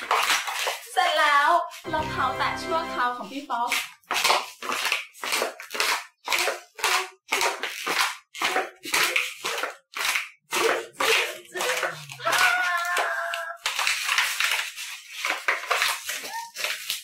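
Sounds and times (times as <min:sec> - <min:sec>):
plastic sandals on tiled floor: 0:00.0 - 0:02.0, 0:03.3 - 0:17.0.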